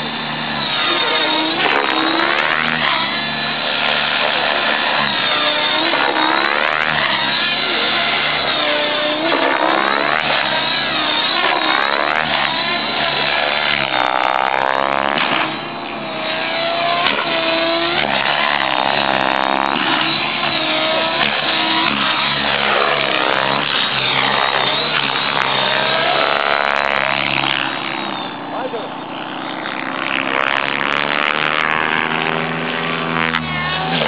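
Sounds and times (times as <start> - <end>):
rc helicopter motor whine: 0.0 - 34.0.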